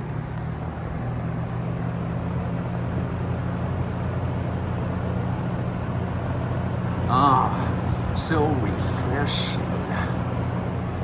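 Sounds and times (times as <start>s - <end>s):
window air conditioner running: 0.0s - 11.0s
box fan humming: 0.8s - 11.0s.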